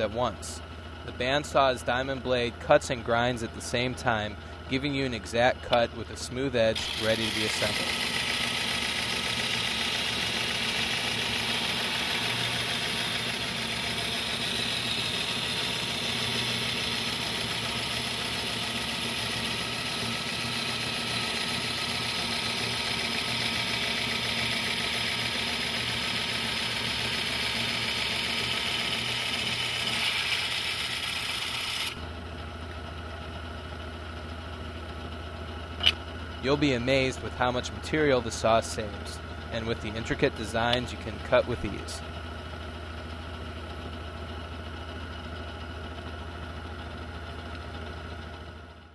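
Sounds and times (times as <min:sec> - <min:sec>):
motor hum: 0:00.0 - 0:48.9.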